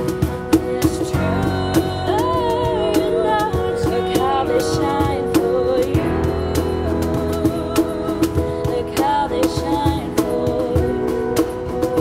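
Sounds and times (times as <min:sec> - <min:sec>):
girls singing with vibrato: 0:00.7 - 0:12.0.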